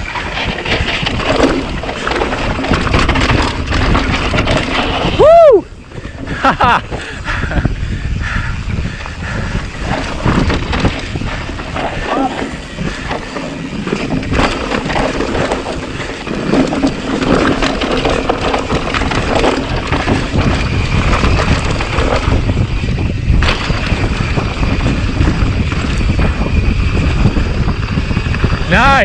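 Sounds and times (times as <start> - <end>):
bike tyres and frame rattling: 0.0 - 29.0
wind rushing over microphone: 0.0 - 29.0.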